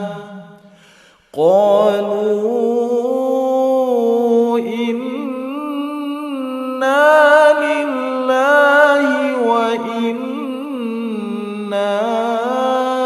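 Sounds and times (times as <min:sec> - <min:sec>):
person reciting in melodic chant: 0:00.0 - 0:13.0.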